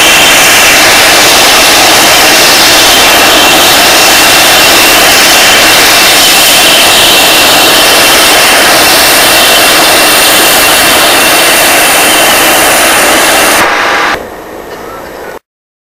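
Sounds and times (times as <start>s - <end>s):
jet engines running: 0.0s - 14.4s.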